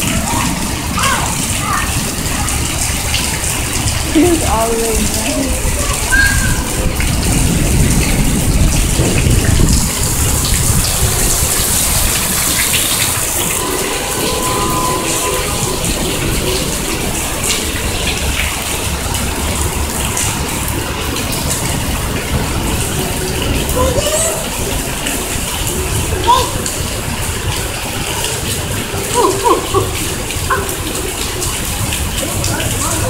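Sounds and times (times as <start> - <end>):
heavy rain: 0.0 - 33.0
running water: 0.0 - 33.0.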